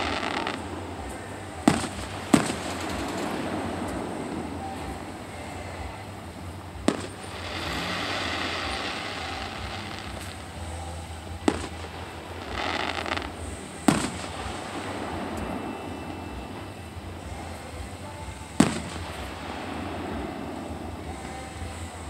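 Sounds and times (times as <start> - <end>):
firework booms: 0.0 - 10.6, 11.3 - 17.8, 18.5 - 22.0.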